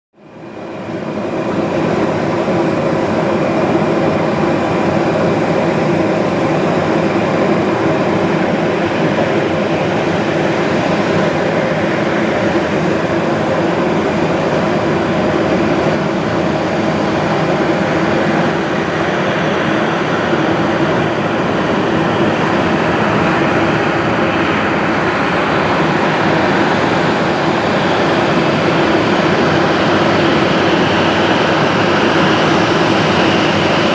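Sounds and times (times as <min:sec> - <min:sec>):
airliner jet engines roaring: 0:00.2 - 0:33.9.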